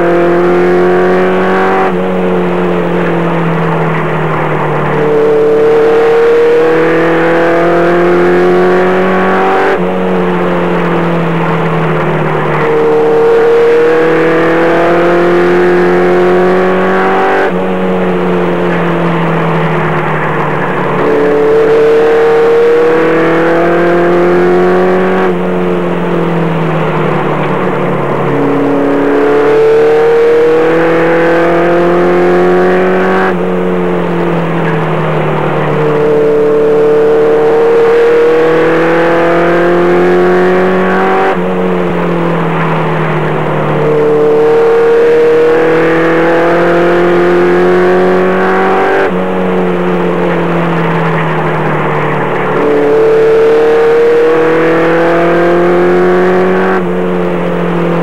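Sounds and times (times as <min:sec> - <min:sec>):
race truck engine: 0:00.0 - 0:58.0.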